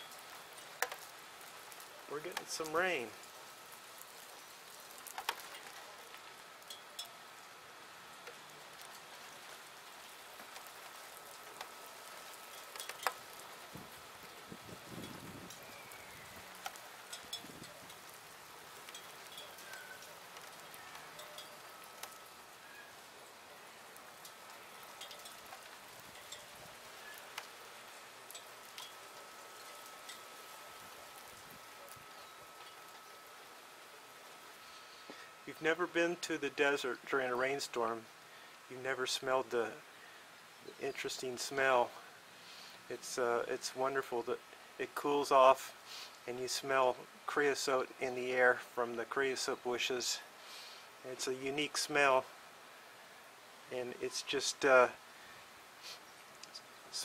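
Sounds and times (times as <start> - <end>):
light rain hissing: 0.0 - 57.0
raindrops ticking on surfaces: 0.0 - 57.0.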